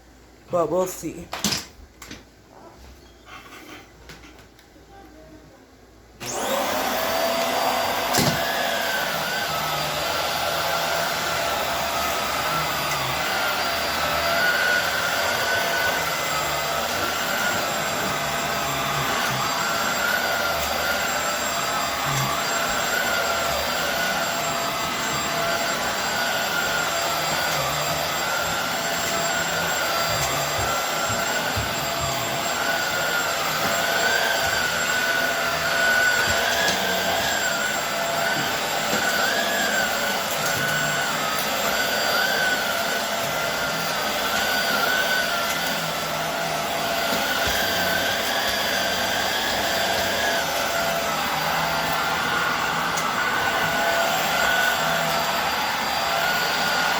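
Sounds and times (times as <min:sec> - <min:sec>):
vacuum cleaner running: 0:06.2 - 0:56.9.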